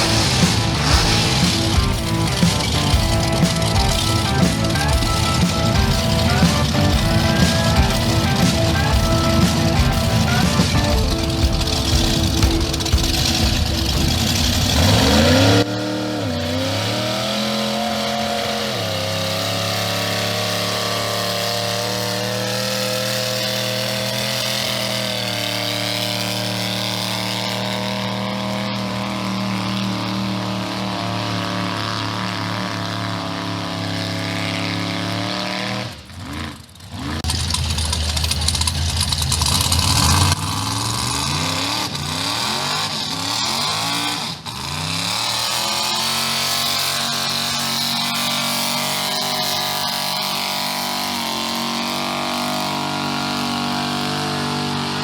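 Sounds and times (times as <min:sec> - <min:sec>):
vehicle engine running and revving: 0:00.0 - 0:55.0.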